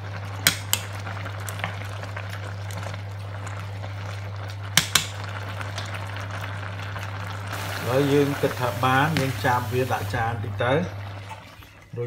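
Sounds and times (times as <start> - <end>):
water boiling and bubbling: 0.0 - 12.0.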